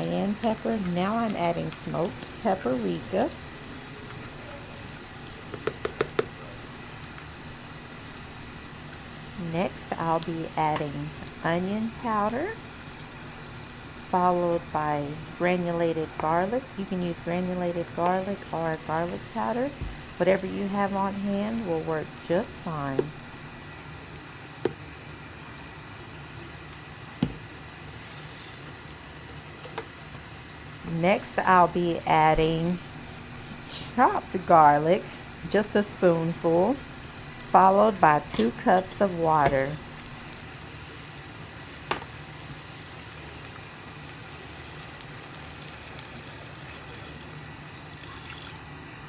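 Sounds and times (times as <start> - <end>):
food sizzling in a pot: 0.0 - 49.0.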